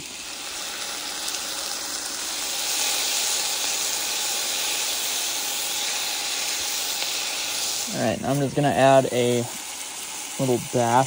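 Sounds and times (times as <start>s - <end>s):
onions sizzling in pot: 0.0s - 11.0s.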